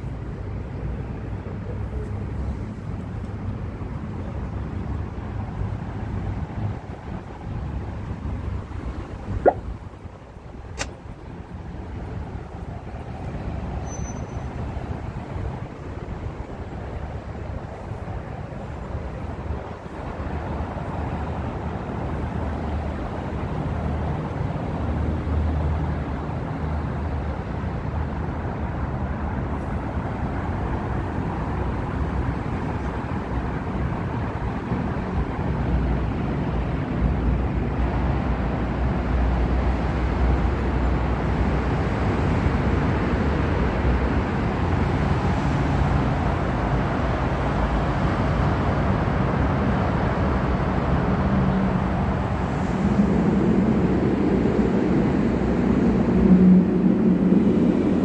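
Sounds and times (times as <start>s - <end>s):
road traffic rumble and hiss: 0.0s - 58.0s.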